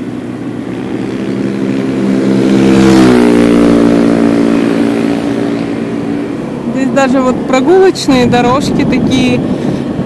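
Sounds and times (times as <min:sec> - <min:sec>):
motorcycle engine running: 0:00.0 - 0:10.0
vehicle passing close by: 0:00.0 - 0:10.0.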